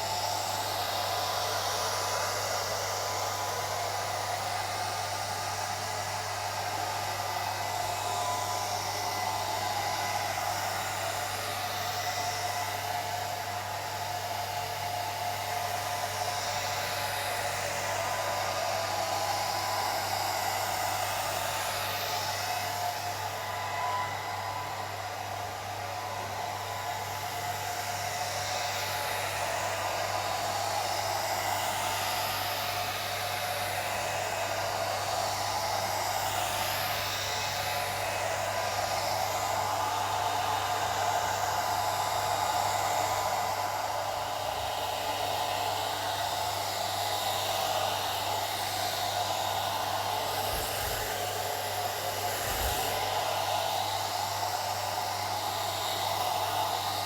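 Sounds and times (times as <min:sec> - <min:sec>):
hair dryer blowing: 0:00.0 - 0:57.0.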